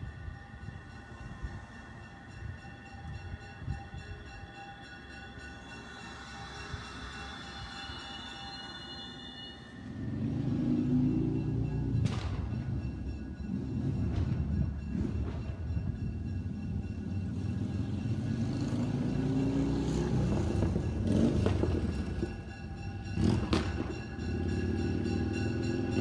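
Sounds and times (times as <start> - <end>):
train passing with low rumble: 0.0 - 26.0.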